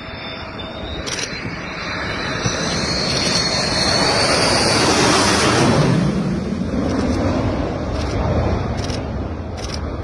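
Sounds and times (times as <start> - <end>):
fighter jet engine roar and whine: 0.0 - 10.0.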